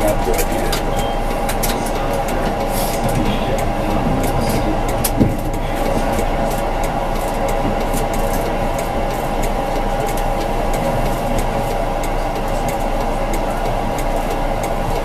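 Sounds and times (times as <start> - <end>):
held whine: 0.0 - 15.0
tram running rumble: 0.0 - 15.0.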